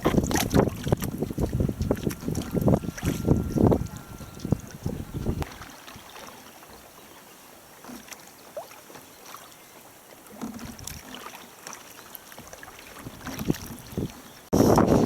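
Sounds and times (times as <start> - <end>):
water dripping and lapping: 0.0 - 14.5
paddle strokes splashing: 0.0 - 14.9.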